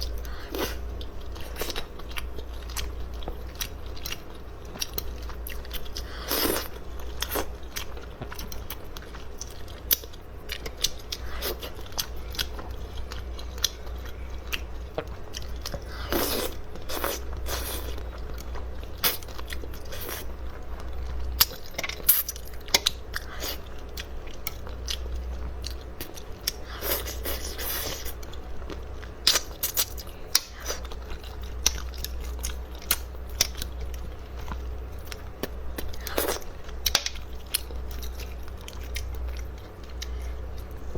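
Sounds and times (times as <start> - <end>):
person chewing and crunching: 0.0 - 40.9
steady low hum: 0.0 - 40.9.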